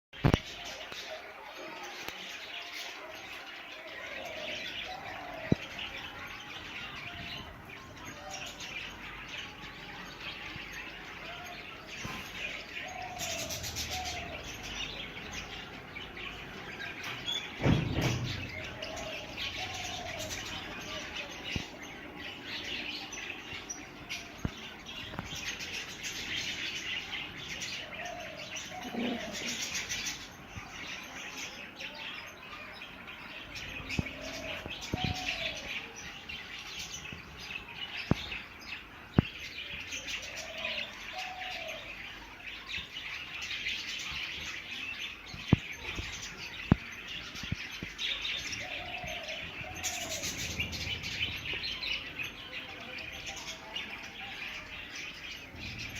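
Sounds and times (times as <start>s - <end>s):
budgerigars chattering and warbling: 0.2s - 55.9s.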